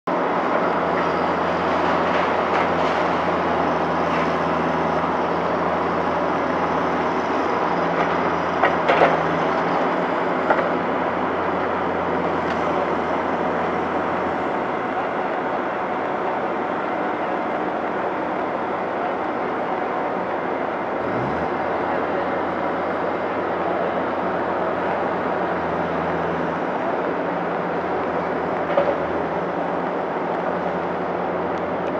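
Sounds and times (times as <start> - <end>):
diesel machinery engine hum: 0.1 - 31.9
traffic noise: 0.1 - 31.9.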